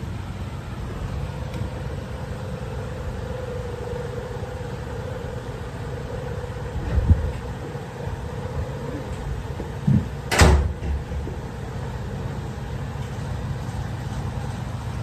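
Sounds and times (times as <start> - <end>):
faint droning tone: 0.0 - 15.0
low mechanical hum: 0.0 - 15.0.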